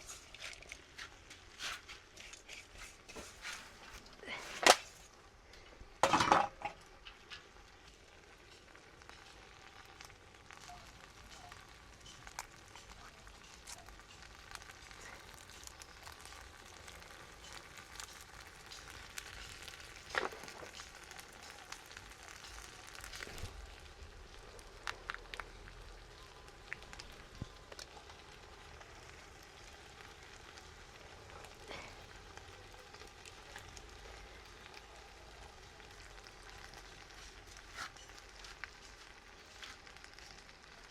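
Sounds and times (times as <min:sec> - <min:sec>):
food sizzling in a pot: 0:00.0 - 0:05.1, 0:05.9 - 0:40.9.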